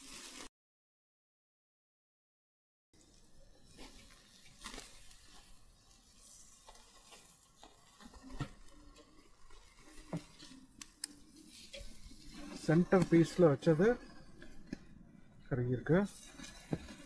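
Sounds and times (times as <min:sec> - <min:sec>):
chicken sizzling on a grill: 0:00.0 - 0:00.5, 0:03.0 - 0:17.0.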